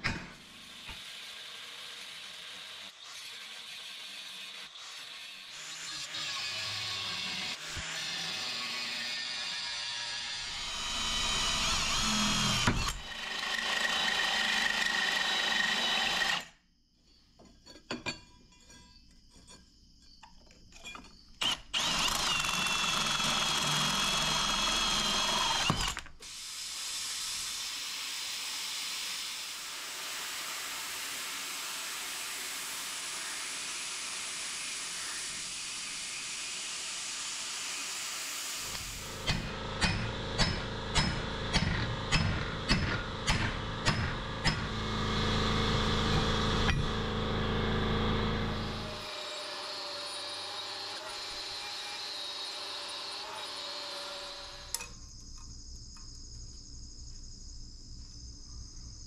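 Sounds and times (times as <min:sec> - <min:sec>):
cordless drill boring through steel: 0:00.4 - 0:16.6, 0:21.4 - 0:54.9
angle grinder cutting steel: 0:00.5 - 0:16.5, 0:21.4 - 0:54.8.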